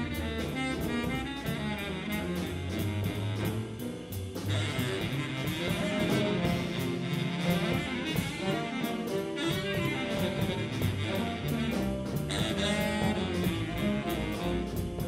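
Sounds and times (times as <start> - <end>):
baritone saxophone solo: 0.0 - 15.0
rhythm section: 0.0 - 15.0.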